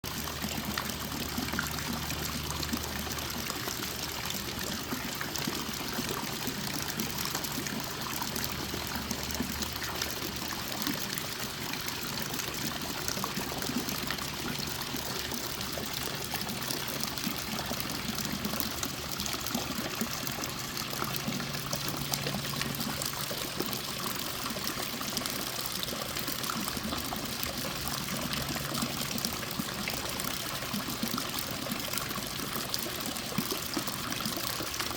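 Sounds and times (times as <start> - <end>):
fountain water trickling and splashing: 0.0 - 34.9.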